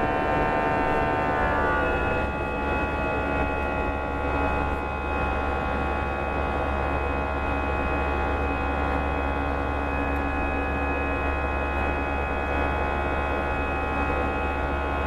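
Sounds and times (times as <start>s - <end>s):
jet engines humming and whining: 0.0s - 15.0s.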